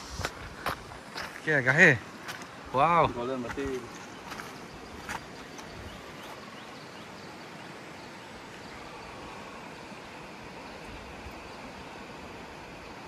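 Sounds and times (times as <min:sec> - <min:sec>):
fast mountain stream rushing: 0:00.0 - 0:13.0.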